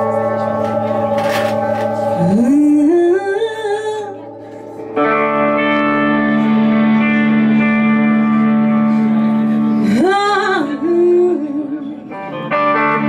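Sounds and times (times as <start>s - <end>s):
slide guitar gliding: 0.0s - 13.0s.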